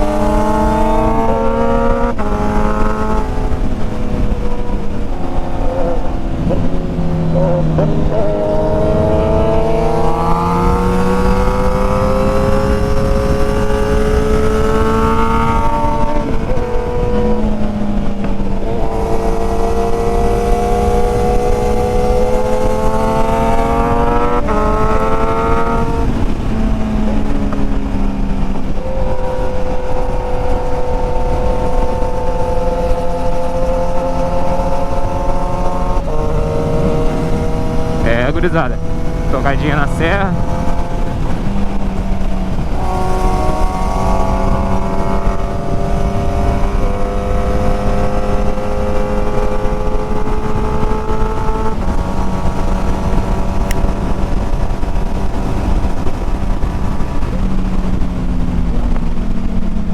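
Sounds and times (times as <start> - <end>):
motorcycle engine accelerating: 0.0 - 59.9
wind on microphone: 0.0 - 59.9.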